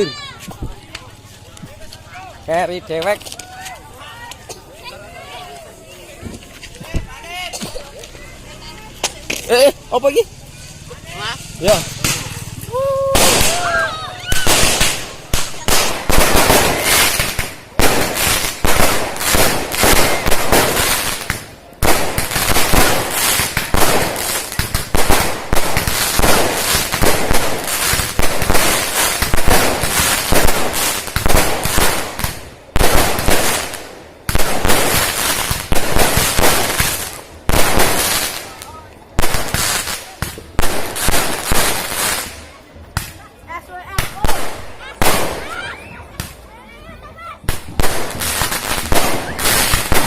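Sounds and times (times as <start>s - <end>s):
fireworks crackling: 0.0s - 50.0s.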